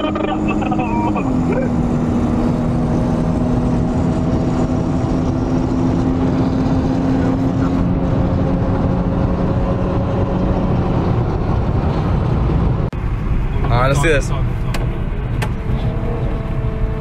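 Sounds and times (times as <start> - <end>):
car engine drone: 0.0 - 17.0
road noise inside car: 0.0 - 17.0.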